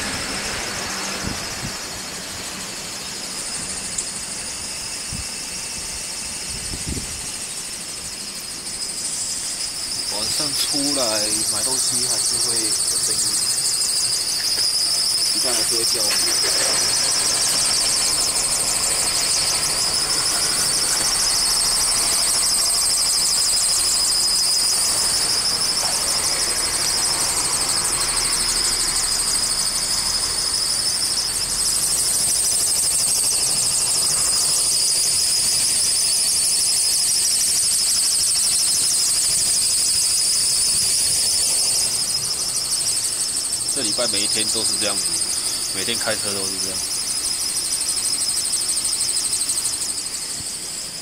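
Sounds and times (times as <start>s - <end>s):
drive belt squealing: 0.0s - 51.0s.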